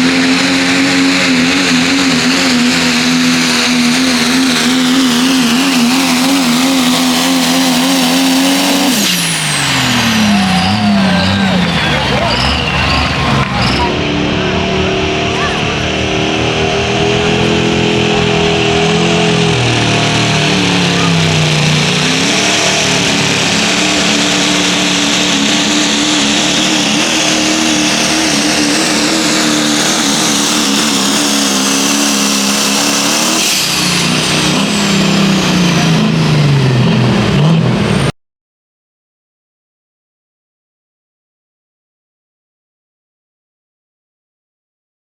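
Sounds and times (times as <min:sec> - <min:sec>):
diesel truck engine under load: 0:00.0 - 0:38.1
high whine: 0:00.5 - 0:38.1.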